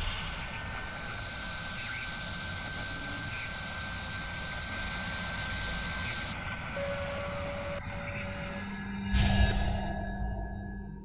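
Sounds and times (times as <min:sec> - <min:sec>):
milling spindle hiss: 0:00.0 - 0:09.1
thin high whine: 0:00.0 - 0:11.0.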